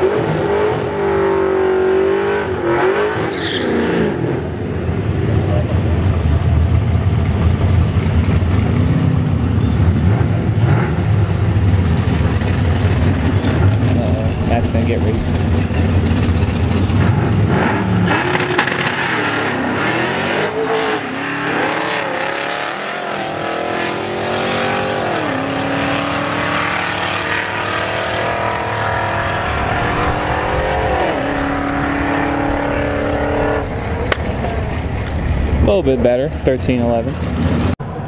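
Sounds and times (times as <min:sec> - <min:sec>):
drag car engines revving: 0:00.0 - 0:38.0.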